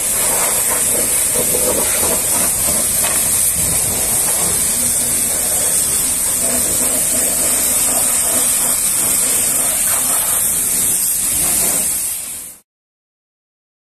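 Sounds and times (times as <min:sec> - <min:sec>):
pressure washer spraying: 0:00.0 - 0:12.6.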